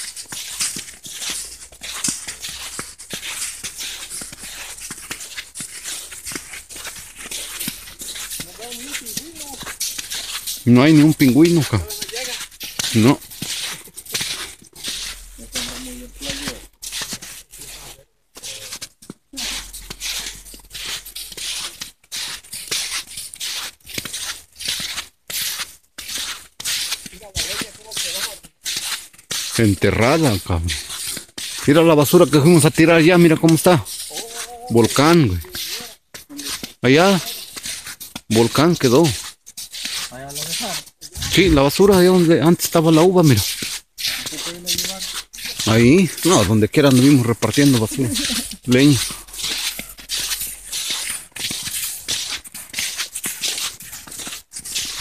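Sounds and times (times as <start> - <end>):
footsteps crunching through snow: 0.0 - 55.0.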